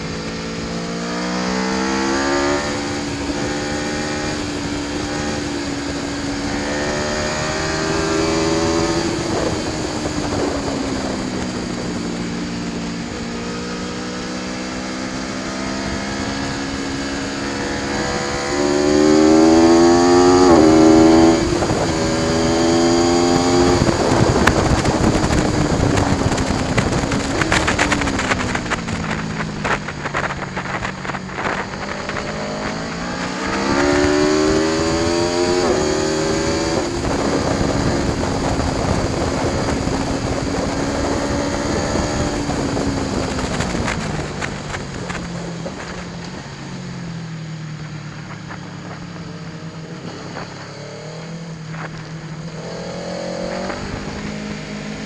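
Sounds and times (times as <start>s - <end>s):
motorcycle engine at speed: 0.0s - 55.0s
wind rush: 0.0s - 55.0s.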